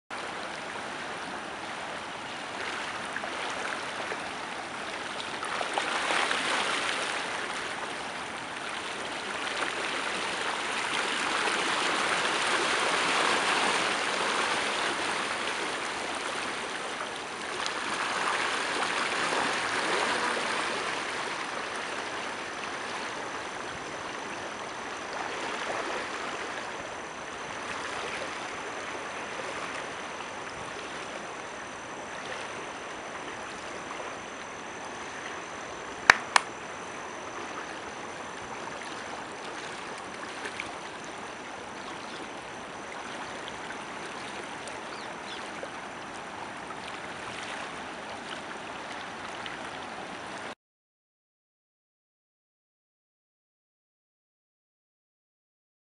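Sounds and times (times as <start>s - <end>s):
rushing river water: 0.2s - 50.5s.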